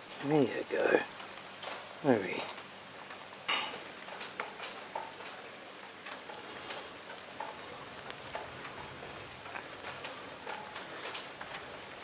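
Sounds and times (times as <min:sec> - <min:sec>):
rain pattering: 0:00.0 - 0:12.0
small ticks: 0:00.1 - 0:12.0.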